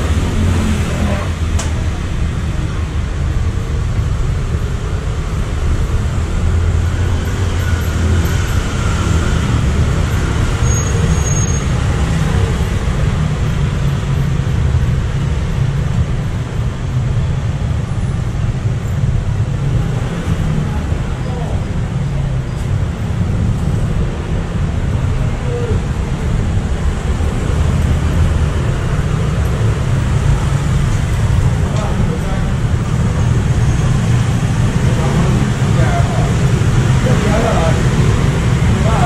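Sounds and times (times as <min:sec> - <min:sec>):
street traffic rumble: 0:00.0 - 0:39.0.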